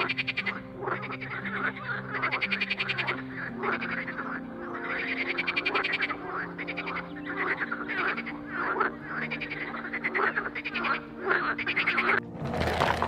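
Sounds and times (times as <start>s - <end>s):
frog croaking: 0.0s - 12.2s.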